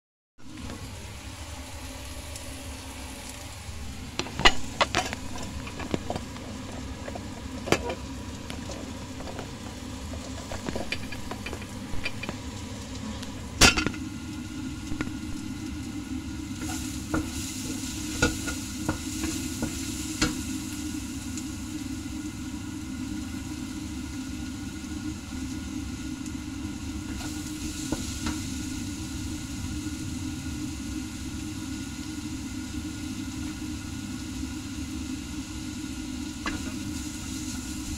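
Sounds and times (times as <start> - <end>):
food sizzling in a wok: 0.4 - 37.9.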